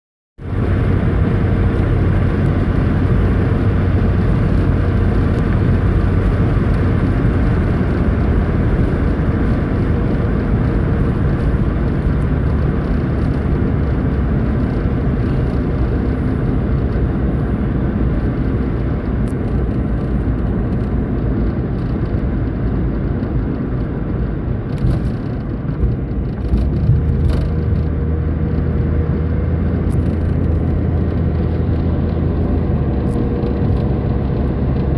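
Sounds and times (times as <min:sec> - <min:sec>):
car engine hum and road rumble: 0:00.4 - 0:34.9.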